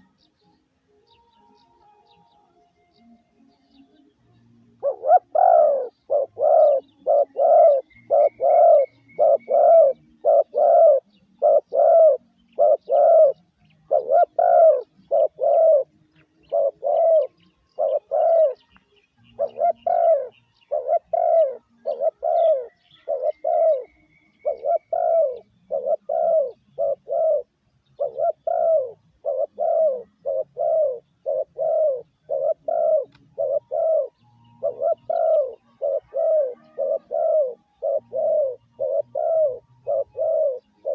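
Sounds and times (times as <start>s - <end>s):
dove cooing: 4.8s - 18.7s, 19.4s - 40.9s
faint high bird trill: 4.8s - 40.9s.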